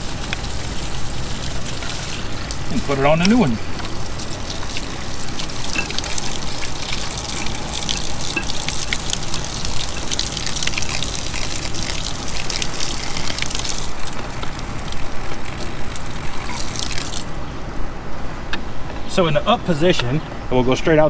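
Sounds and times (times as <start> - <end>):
water gushing and splashing: 0.0 - 18.9
low pump hum: 0.0 - 21.0.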